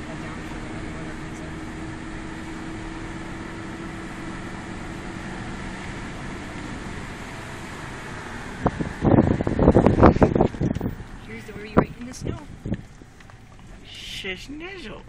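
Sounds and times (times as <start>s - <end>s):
road and engine noise in car: 0.0s - 15.0s.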